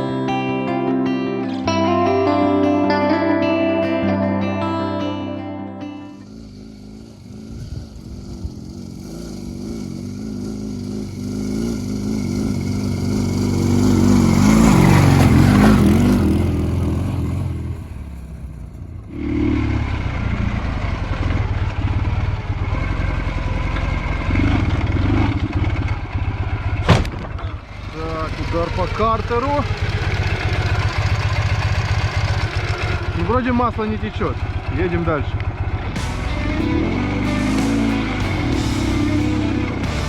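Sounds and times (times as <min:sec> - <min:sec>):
motorcycle engine labouring: 0:06.1 - 0:40.0.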